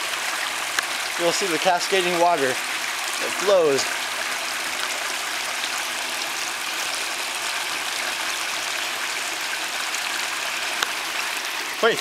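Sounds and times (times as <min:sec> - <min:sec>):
water cascading: 0:00.0 - 0:12.0.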